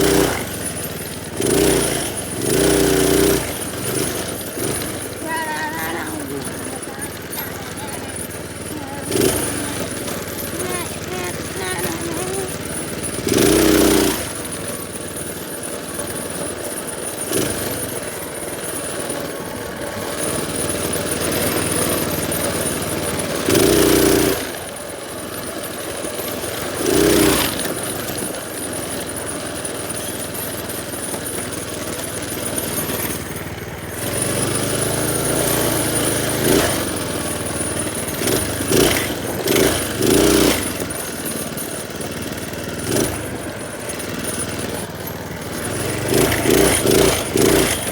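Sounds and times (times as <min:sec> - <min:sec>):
small motorbike engine running: 0:00.0 - 0:47.9.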